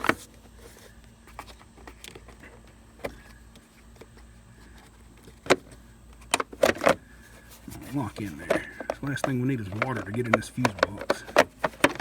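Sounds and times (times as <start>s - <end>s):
plastic cover being handled: 0.0s - 12.0s.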